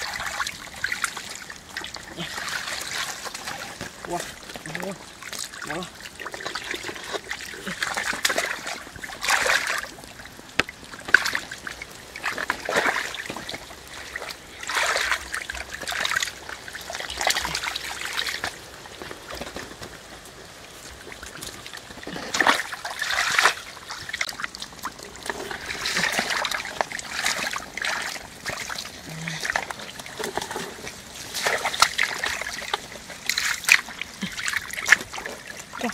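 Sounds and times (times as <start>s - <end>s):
water splashing from basin: 0.0s - 18.8s, 21.0s - 35.9s.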